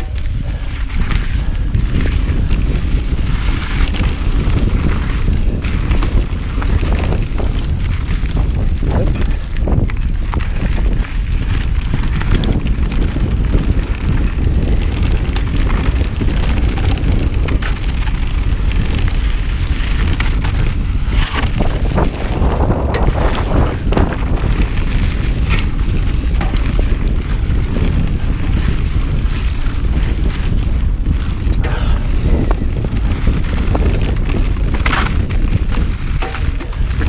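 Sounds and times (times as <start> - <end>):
bike clicks and rattles: 0.0 - 37.0
bike tyres rolling on dirt trail: 0.0 - 37.0
wind buffeting microphone: 0.0 - 37.0.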